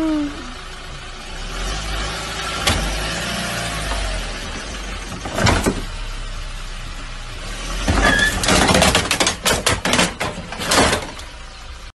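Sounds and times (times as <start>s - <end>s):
truck engine running low: 0.0s - 11.9s.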